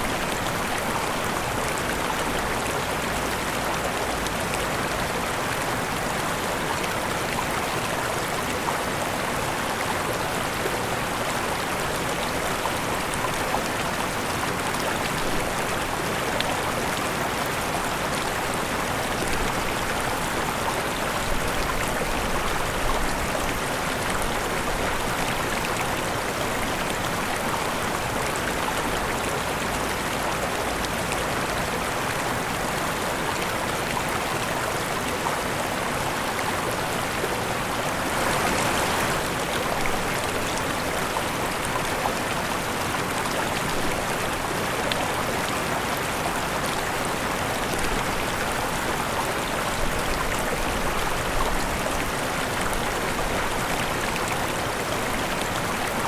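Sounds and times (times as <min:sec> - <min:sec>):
waterfall splashing and rushing: 0:00.0 - 0:56.0.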